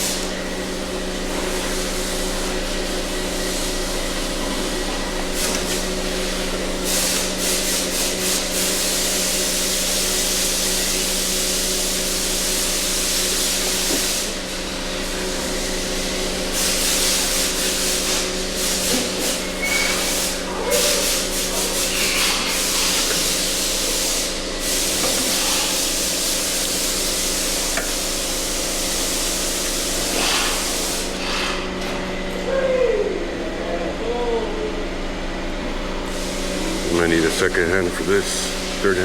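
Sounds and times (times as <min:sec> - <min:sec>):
workshop hiss: 0:00.0 - 0:39.0.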